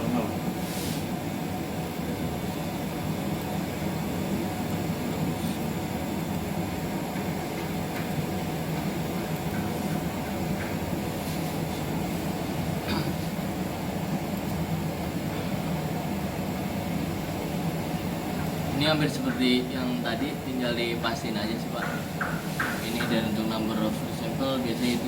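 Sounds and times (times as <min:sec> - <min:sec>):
machinery humming: 0:00.0 - 0:25.0.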